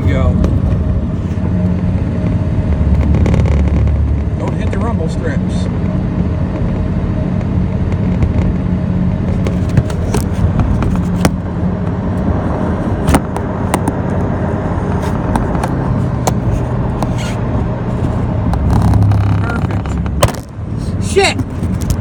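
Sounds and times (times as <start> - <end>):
road noise: 0.0 - 22.0
truck engine hum: 0.0 - 22.0.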